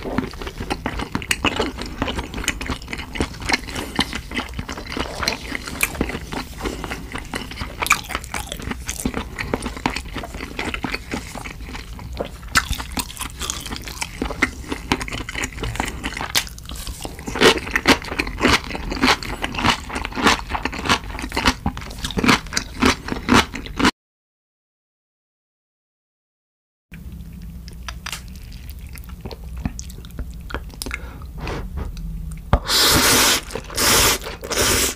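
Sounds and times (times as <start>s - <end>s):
person chewing food: 0.0s - 23.9s, 27.0s - 34.9s.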